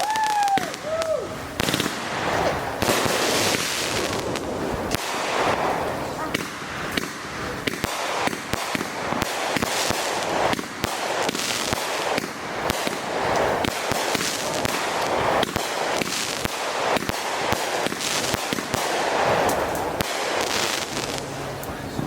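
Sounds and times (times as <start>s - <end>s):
crackling hiss: 0.0s - 22.0s
firework pops and bangs: 0.0s - 22.0s.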